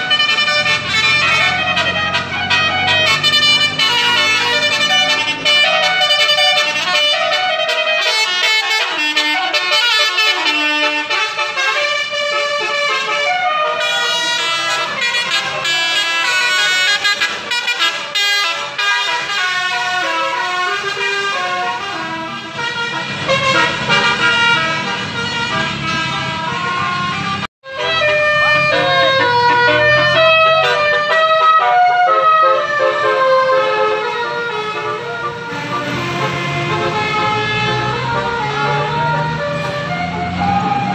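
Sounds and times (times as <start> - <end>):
musical multi-tone horns: 0.0 - 40.9.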